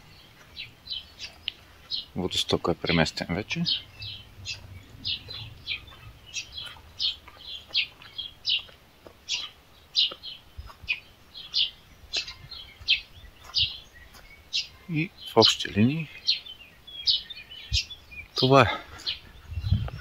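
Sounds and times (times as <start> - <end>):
small songbirds chirping: 0.0 - 20.0.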